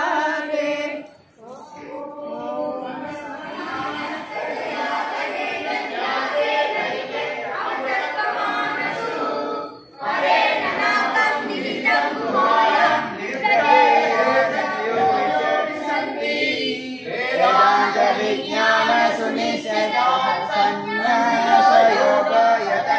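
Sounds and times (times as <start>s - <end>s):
group singing devotional hymn: 0.0s - 22.9s.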